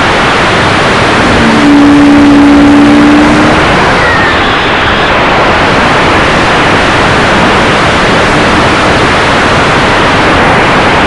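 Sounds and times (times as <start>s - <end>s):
model plane wind and propeller noise: 0.0s - 11.0s.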